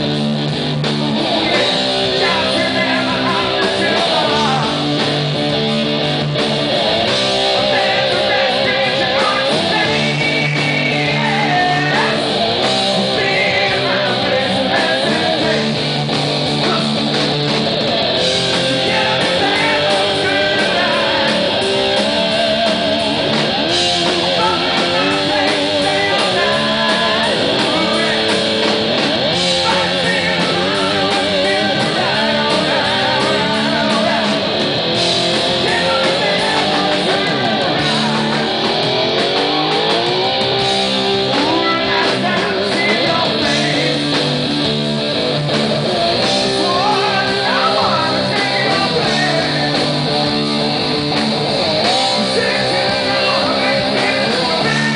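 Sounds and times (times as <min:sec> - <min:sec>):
electric guitar bending notes: 0:00.0 - 0:54.9
live rock band playing: 0:00.0 - 0:54.9.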